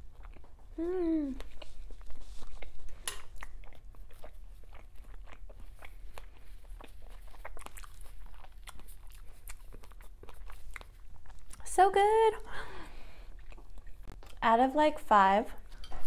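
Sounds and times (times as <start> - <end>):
person chewing food: 0.0 - 11.7, 12.5 - 14.4.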